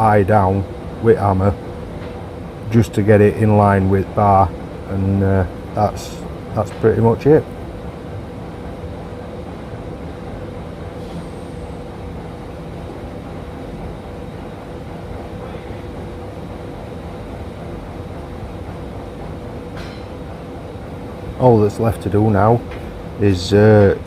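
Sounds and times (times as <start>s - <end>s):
forge machinery droning: 0.0s - 24.0s.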